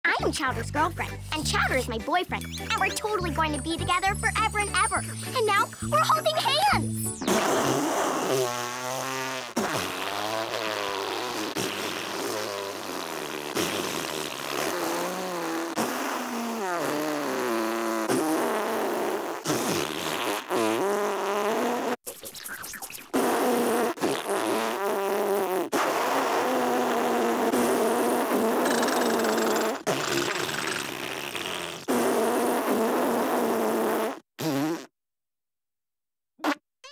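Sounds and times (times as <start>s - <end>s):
cartoon sputtering spit spray: 2.4s - 34.9s, 36.4s - 36.9s.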